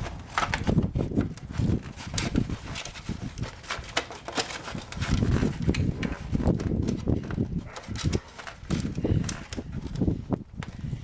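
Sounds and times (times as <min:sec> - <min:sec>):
plastic parts knocking and clicking: 0:00.0 - 0:10.8
rustling of small parts: 0:00.0 - 0:11.0.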